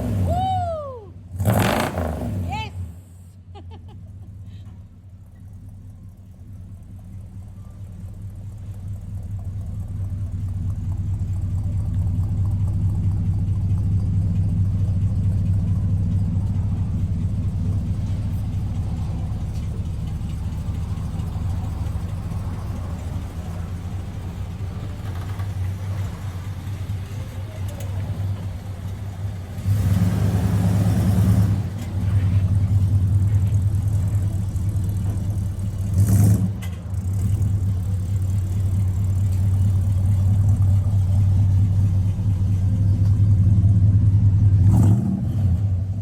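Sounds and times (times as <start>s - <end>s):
low car exhaust rumble: 0.0s - 46.0s.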